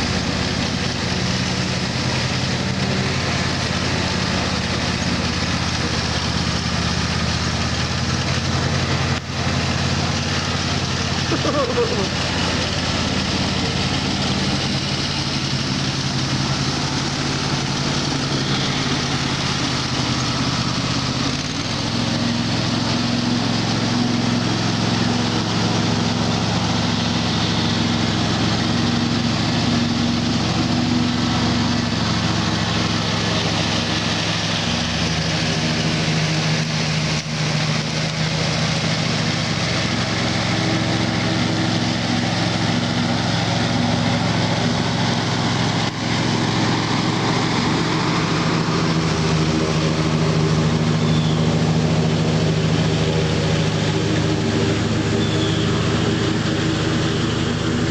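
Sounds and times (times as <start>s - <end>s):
riding lawnmower engine running: 0.0s - 57.9s.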